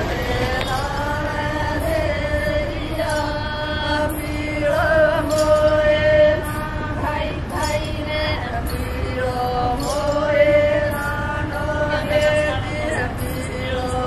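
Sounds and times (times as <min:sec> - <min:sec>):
women singing together: 0:00.0 - 0:14.0.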